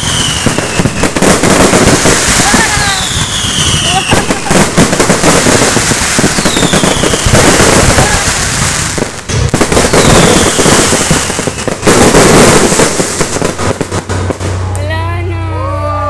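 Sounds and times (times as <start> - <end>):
fireworks crackling and banging: 0.0 - 15.3.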